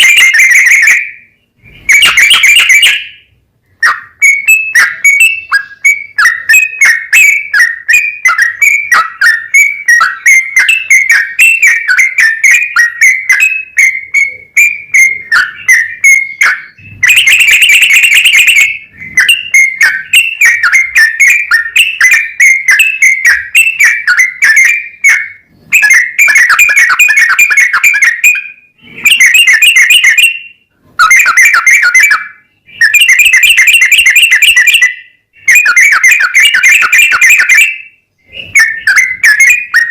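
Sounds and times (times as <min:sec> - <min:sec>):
bird singing whistled notes: 0:00.0 - 0:39.9
loud bird chattering: 0:00.0 - 0:39.9.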